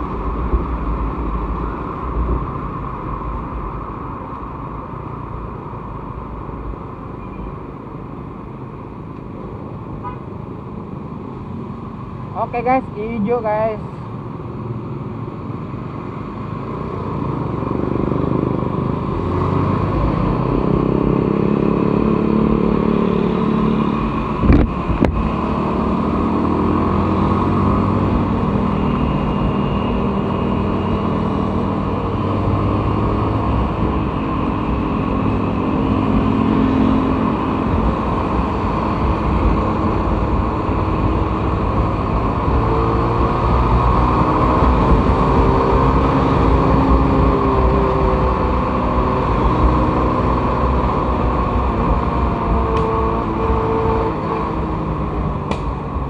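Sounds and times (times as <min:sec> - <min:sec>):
passing traffic: 0:00.0 - 0:56.0.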